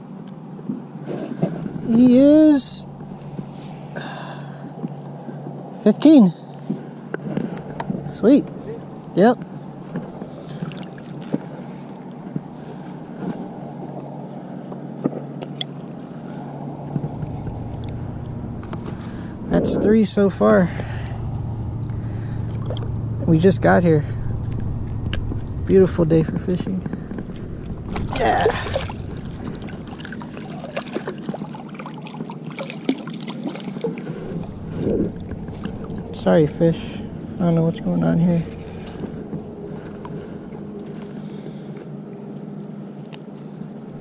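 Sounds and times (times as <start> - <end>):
low motor drone: 0.0 - 44.0
water noise: 0.0 - 44.0
wind: 0.0 - 44.0.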